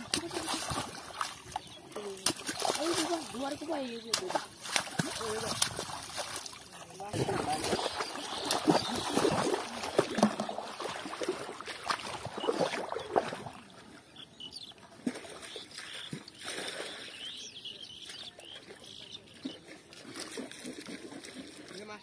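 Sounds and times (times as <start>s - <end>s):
feet splashing through water: 0.0s - 14.1s, 14.8s - 22.0s
birds chirping: 0.0s - 20.1s.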